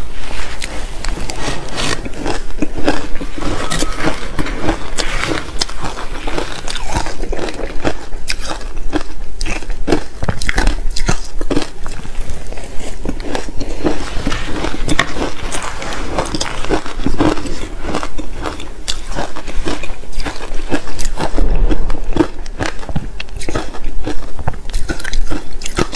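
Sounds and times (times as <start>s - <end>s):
shaved ice being chewed: 0.0s - 25.9s.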